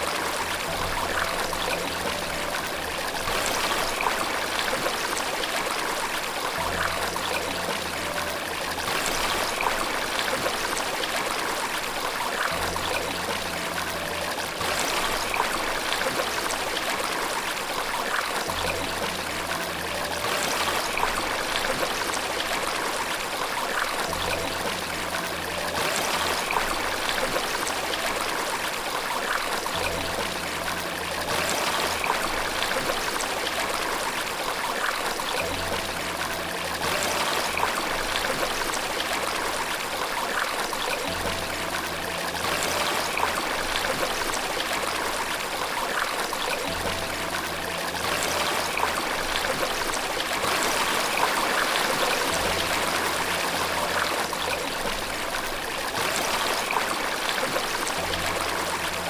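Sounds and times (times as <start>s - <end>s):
running water splashing: 0.0s - 59.0s
soft background music: 0.0s - 59.0s.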